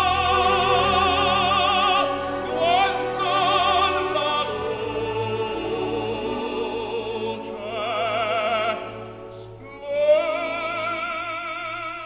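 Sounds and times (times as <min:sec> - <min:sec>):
opera singer with vibrato: 0:00.0 - 0:12.0.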